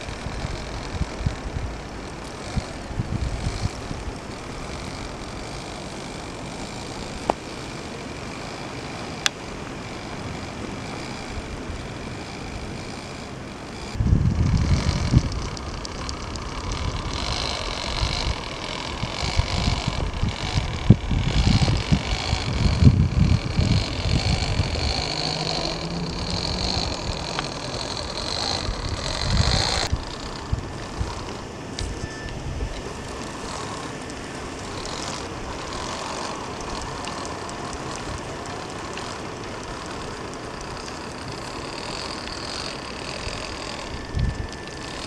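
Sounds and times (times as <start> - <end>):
electric motor whining: 0.0 - 45.0.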